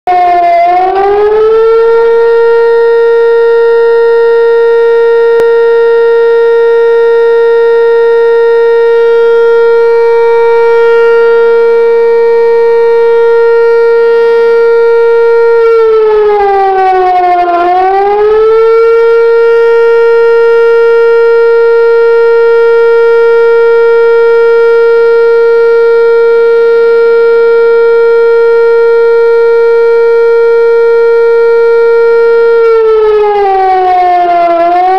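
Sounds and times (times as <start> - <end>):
warning siren wailing: 0.1 - 34.9.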